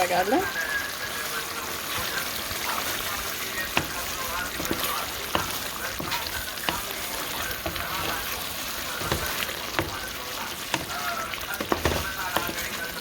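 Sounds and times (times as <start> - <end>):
food frying in oil sizzling: 0.0 - 13.0.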